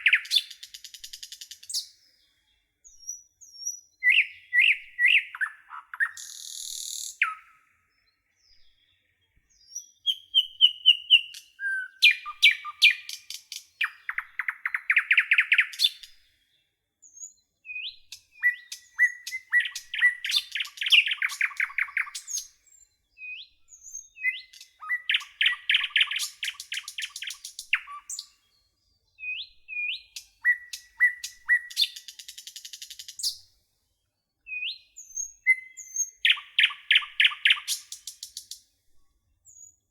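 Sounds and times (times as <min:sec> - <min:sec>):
songbirds singing: 0:00.0 - 0:38.8, 0:39.4 - 0:39.9.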